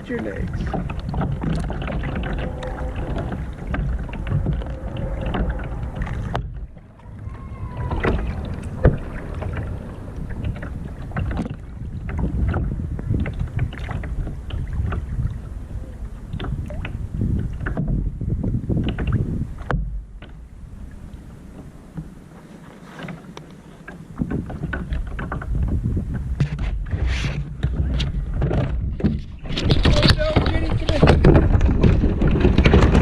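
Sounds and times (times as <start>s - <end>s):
paddle splashing water: 0.0s - 33.0s
wind rumbling on microphone: 0.0s - 33.0s.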